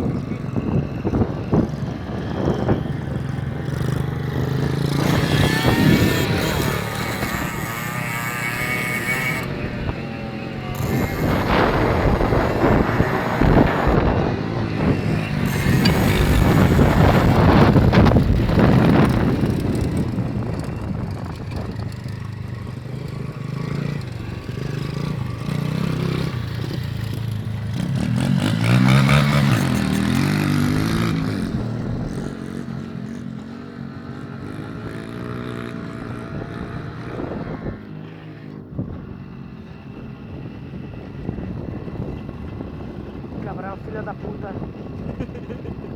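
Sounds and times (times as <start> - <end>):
small motorcycle engine revving: 0.0 - 45.9.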